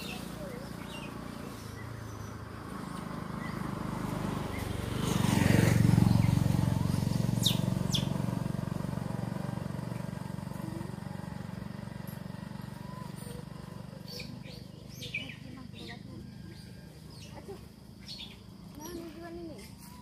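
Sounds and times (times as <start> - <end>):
vehicle passing: 0.0 - 20.0.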